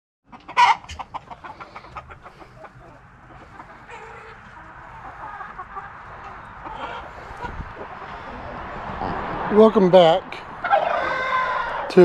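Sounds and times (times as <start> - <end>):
young chickens clucking and peeping: 0.3 - 9.4, 10.3 - 12.0.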